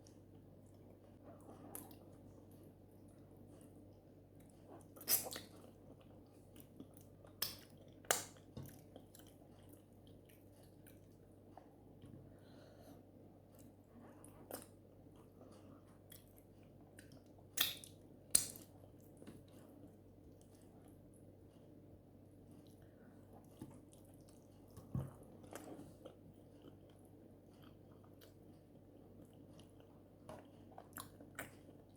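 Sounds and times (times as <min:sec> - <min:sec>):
chewing soft food: 0:00.0 - 0:31.9.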